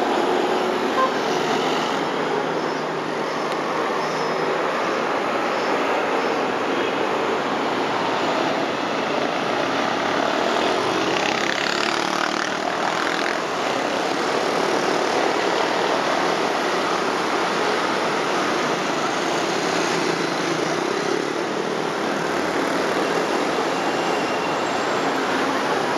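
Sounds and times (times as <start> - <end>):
city street traffic: 0.0 - 25.9.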